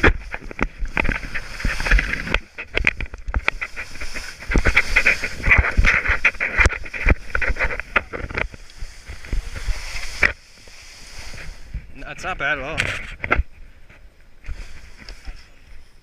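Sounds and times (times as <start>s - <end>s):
skis scraping over snow: 0.0s - 16.0s
wind rumble on microphone: 0.0s - 16.0s.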